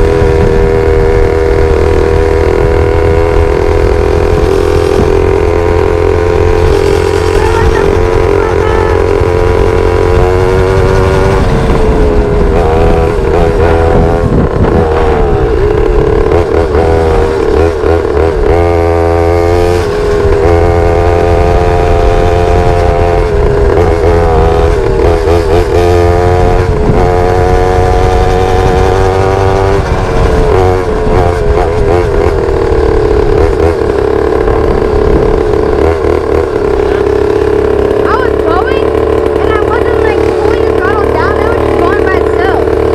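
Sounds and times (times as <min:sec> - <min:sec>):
small motorcycle engine revving: 0:00.0 - 0:42.9.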